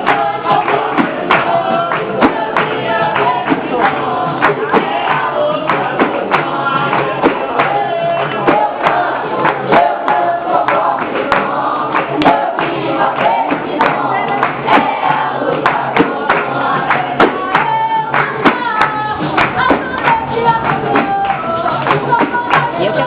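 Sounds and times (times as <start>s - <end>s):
hand percussion strikes: 0.0s - 23.0s
voices singing together: 0.0s - 23.0s.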